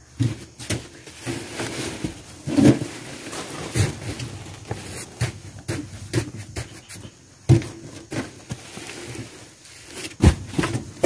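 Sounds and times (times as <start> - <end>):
sacks thudding: 0.0 - 6.8, 7.5 - 11.0
sacks scuffing and knocking: 0.0 - 11.0.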